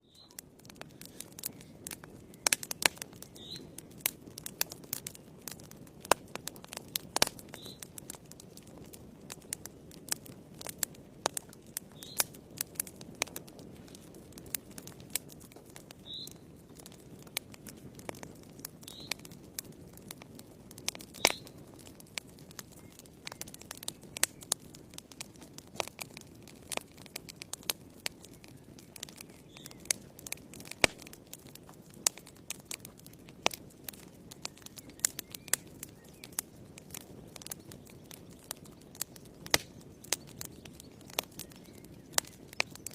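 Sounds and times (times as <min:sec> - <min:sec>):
wood fire crackling and popping: 0:00.0 - 0:42.9
low rush of burning: 0:00.2 - 0:42.9.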